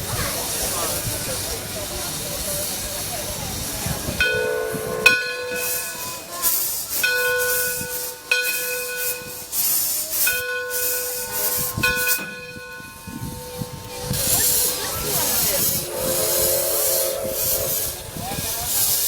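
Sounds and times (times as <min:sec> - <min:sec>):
hissing steam: 0:00.0 - 0:19.0
steam locomotive bell ringing: 0:00.0 - 0:19.0.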